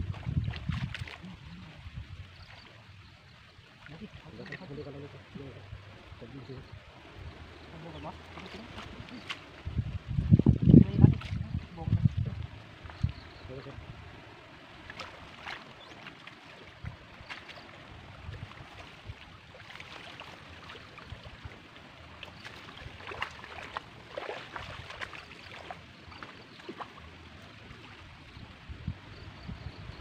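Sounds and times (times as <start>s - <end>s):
water splashing and dripping: 0.0s - 5.5s, 7.0s - 28.7s.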